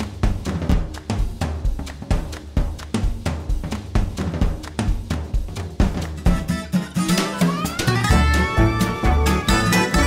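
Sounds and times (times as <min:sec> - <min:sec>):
upbeat drum-driven music: 0:00.0 - 0:10.0.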